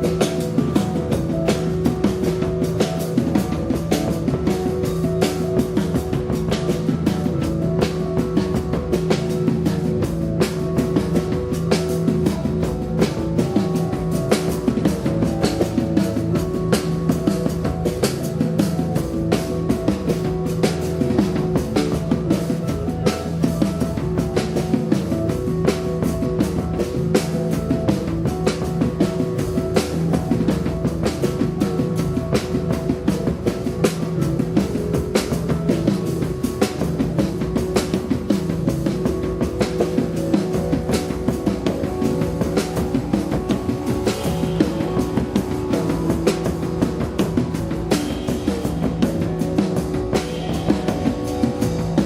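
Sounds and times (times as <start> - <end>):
driving drum kit: 0.0 - 52.0
rock band playing live: 0.0 - 52.0.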